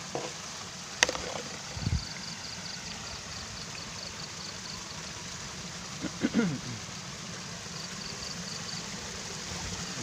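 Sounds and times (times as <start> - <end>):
water running through ditch: 0.0 - 10.0.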